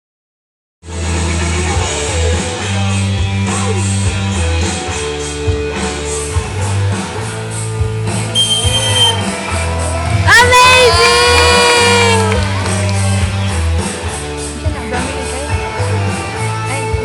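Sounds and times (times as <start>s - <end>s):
loud rock music: 0.8s - 17.0s.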